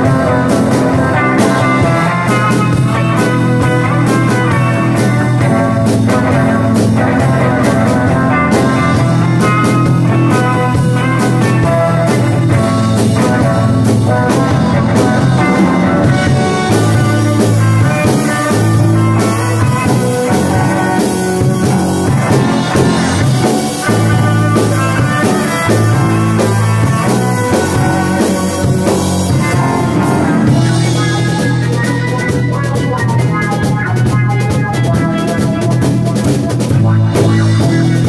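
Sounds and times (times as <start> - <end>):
instrumental surf rock band: 0.0 - 38.0.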